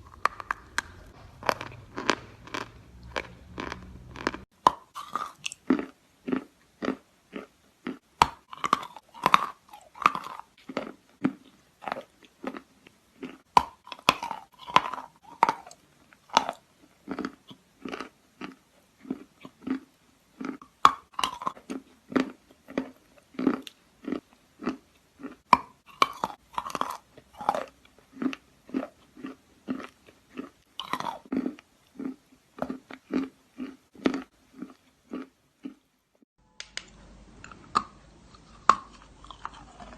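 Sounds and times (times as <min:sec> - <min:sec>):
chalk crunching while chewed: 0:00.0 - 0:35.8, 0:37.5 - 0:39.9.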